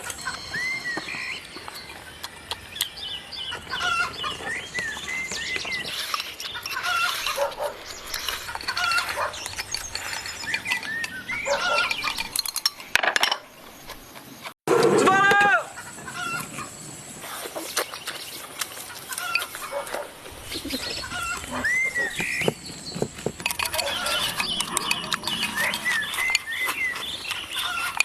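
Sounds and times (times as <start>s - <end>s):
chickens clucking and chirping: 0.0s - 14.5s, 15.7s - 28.0s.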